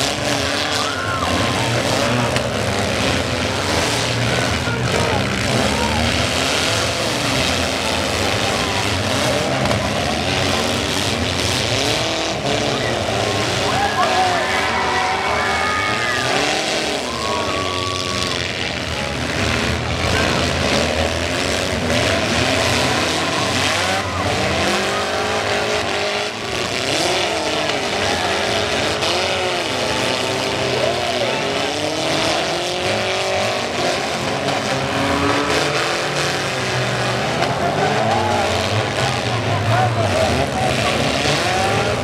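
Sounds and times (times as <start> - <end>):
car engines revving: 0.0 - 42.0
large crowd noise: 0.0 - 42.0.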